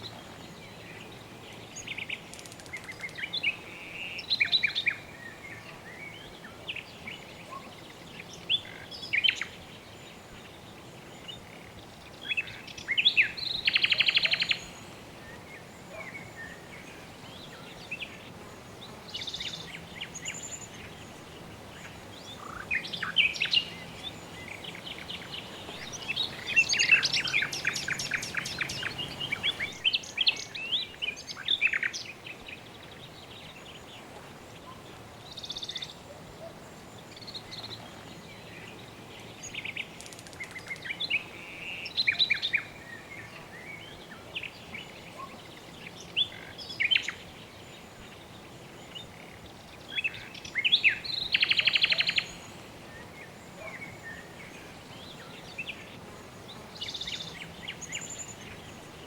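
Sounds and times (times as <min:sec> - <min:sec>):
birds chirping: 0:00.0 - 0:59.0
faint background hiss: 0:00.0 - 0:59.0.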